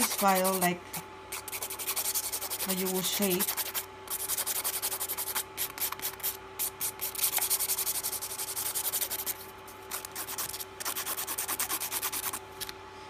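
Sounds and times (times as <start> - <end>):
nail file rasping: 0.0 - 0.7, 1.3 - 12.4.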